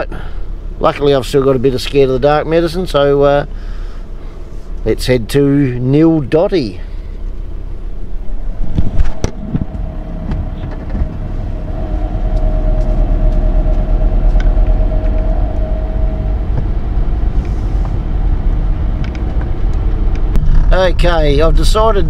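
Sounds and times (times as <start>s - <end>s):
car engine accelerating: 0.0s - 22.0s
road rumble: 0.0s - 22.0s.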